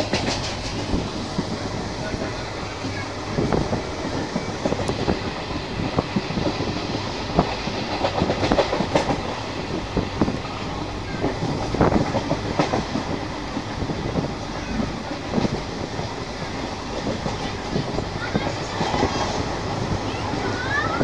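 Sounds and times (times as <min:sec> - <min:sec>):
train rumbling: 0:00.0 - 0:21.0
wheels clacking on track: 0:00.0 - 0:21.0.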